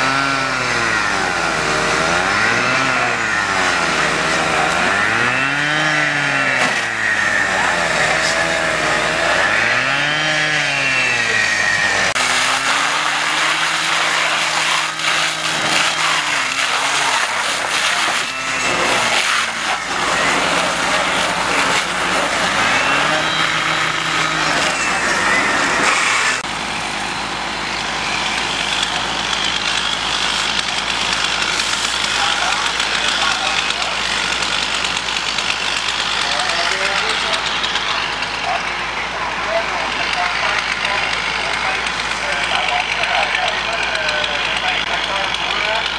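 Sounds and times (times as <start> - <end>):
engine revving: 0.0 - 45.9
fire: 6.2 - 9.7, 11.2 - 45.9.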